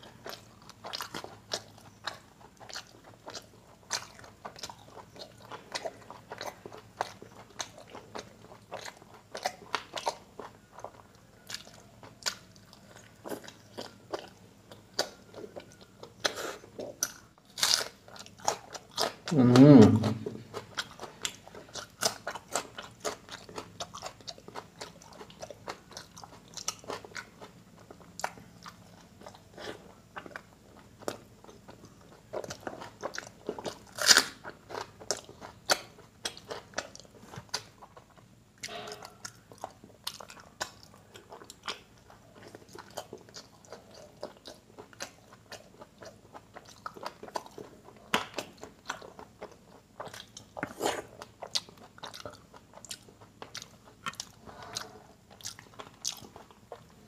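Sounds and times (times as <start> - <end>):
man chewing food: 0.0 - 57.0.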